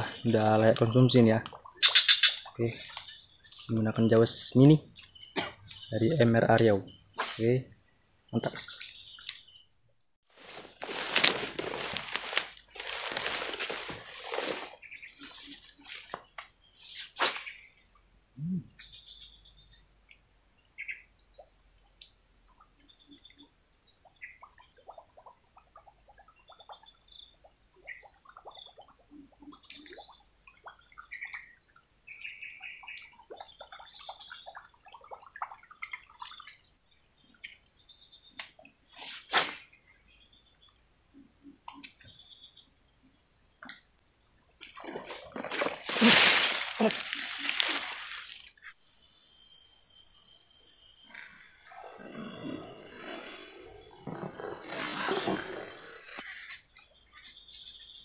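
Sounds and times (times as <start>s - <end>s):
bird chirps: 0.0s - 9.8s, 11.9s - 48.7s, 49.5s - 58.0s
insects trilling: 0.0s - 58.0s.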